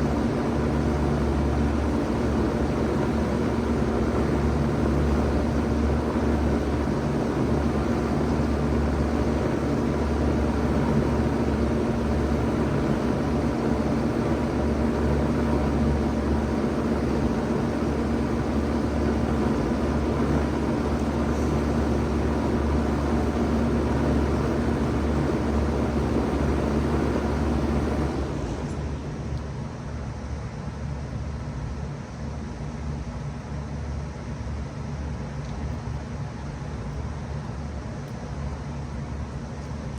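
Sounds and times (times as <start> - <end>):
heat pump hum: 0.0 - 39.9.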